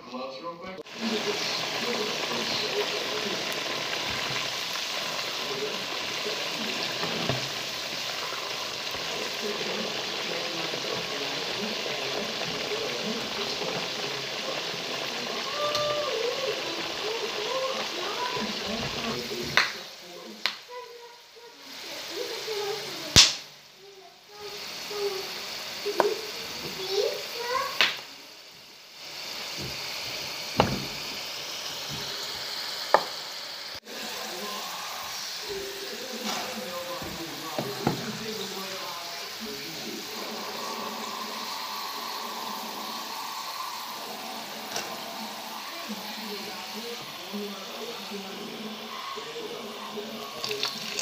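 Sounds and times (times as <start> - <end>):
peanuts frying in hot oil: 0.7 - 51.0.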